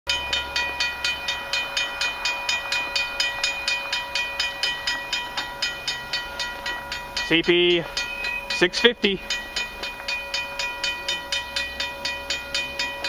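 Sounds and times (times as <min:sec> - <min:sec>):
railway crossing bell ringing: 0:00.1 - 0:13.0.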